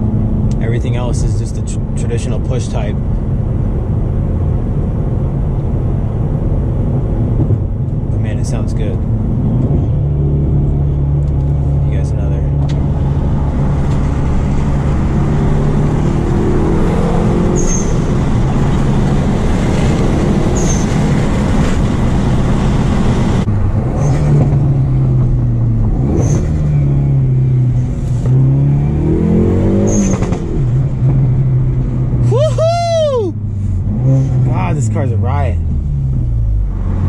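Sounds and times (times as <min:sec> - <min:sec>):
car engine accelerating through gears: 0:03.4 - 0:37.0.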